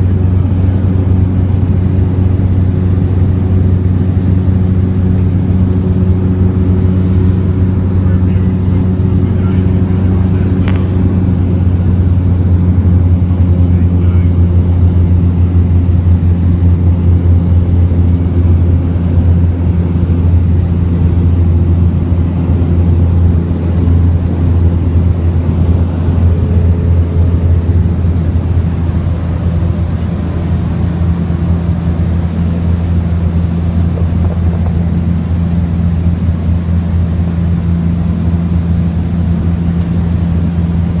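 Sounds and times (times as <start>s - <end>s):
propeller airplane engine drone: 0.0s - 41.0s.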